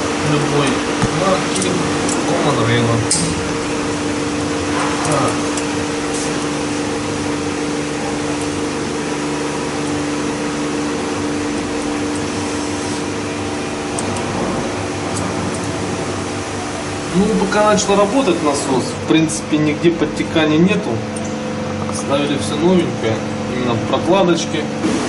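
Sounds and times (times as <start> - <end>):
fuel pump mechanical hum: 0.0 - 25.0
steady whine: 0.0 - 25.0.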